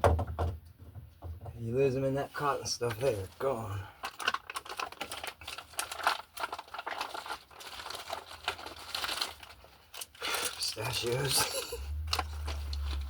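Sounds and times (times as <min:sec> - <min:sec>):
rummaging rustling and crinkling: 0:02.2 - 0:13.0.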